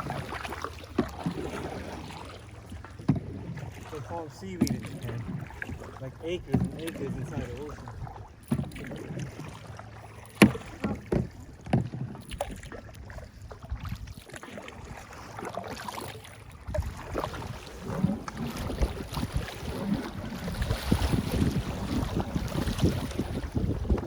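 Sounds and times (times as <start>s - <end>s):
paddle strokes splashing: 0.0s - 24.0s.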